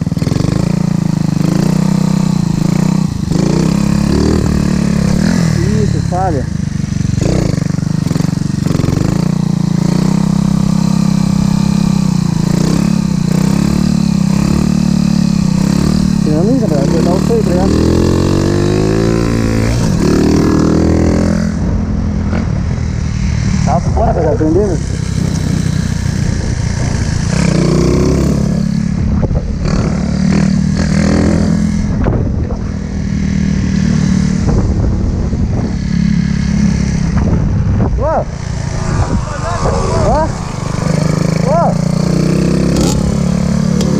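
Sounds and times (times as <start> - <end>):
small motorcycle engine revving: 0.0 - 21.7, 22.3 - 43.9.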